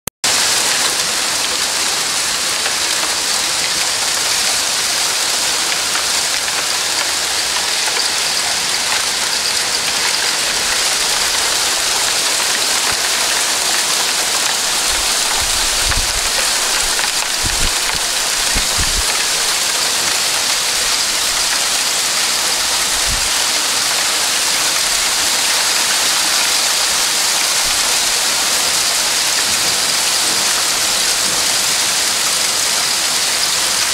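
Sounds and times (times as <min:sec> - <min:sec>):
heavy rain on roof and street: 0:00.2 - 0:33.9.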